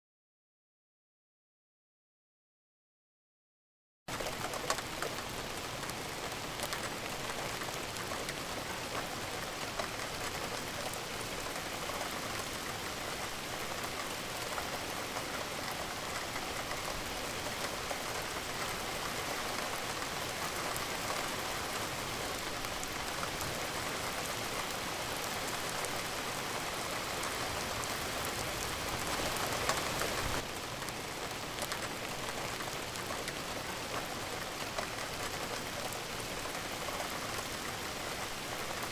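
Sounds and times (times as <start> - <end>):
rain drop ticks: 4.1 - 38.9
steady rain hiss: 4.1 - 38.9.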